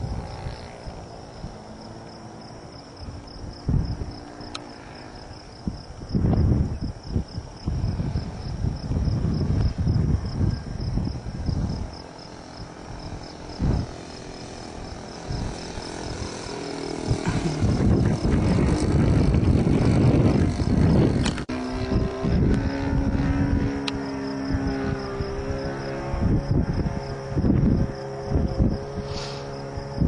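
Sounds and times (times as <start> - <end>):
crickets chirping: 0.0 - 30.0
model plane engine and propeller: 0.0 - 30.0
wind buffeting microphone: 0.0 - 30.0.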